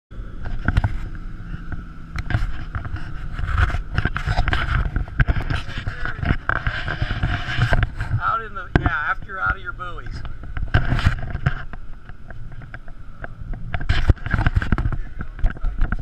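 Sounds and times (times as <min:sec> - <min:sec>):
wind buffeting microphone: 0:00.2 - 0:16.0
camera handling knocks and rubs: 0:00.4 - 0:09.5, 0:10.1 - 0:16.0.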